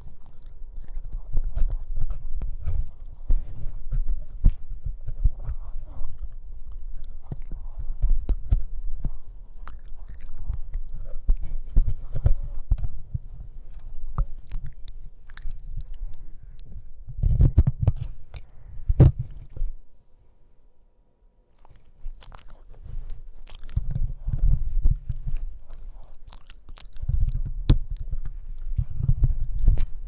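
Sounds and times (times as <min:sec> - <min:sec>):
puppy chewing on microphone: 0:00.0 - 0:19.8, 0:21.5 - 0:30.0
teeth clicking and scraping on mic: 0:00.0 - 0:19.8, 0:21.6 - 0:30.0.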